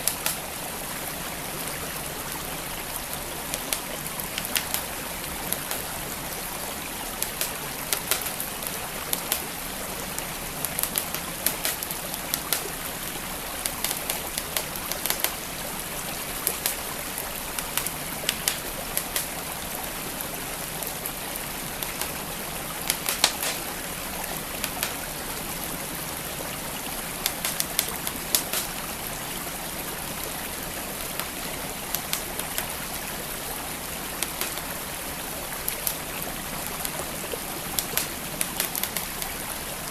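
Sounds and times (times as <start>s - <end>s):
wood fire crackling and popping: 0.0s - 0.6s, 2.2s - 19.8s, 20.5s - 29.1s, 31.0s - 33.0s, 34.0s - 39.8s
flowing creek water: 0.0s - 39.9s.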